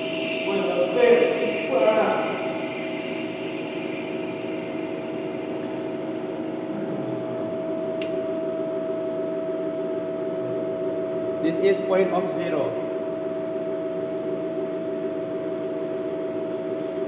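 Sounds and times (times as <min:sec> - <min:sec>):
lathe humming and whining: 0:00.0 - 0:17.0.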